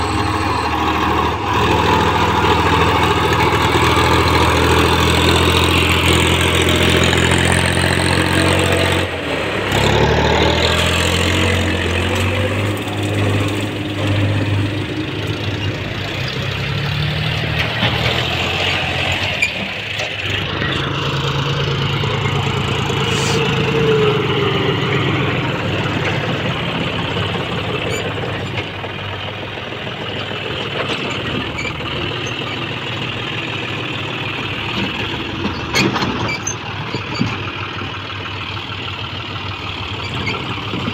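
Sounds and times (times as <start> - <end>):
diesel tractor engines under load: 0.0 - 40.9.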